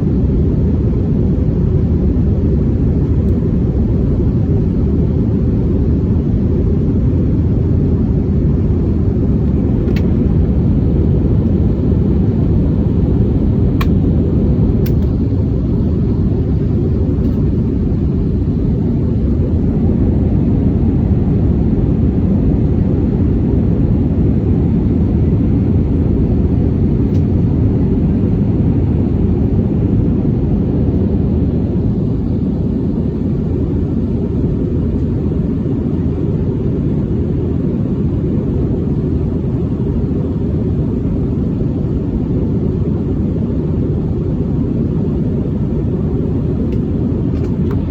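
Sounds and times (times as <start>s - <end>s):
jet engines and airflow rumble: 0.0s - 47.9s.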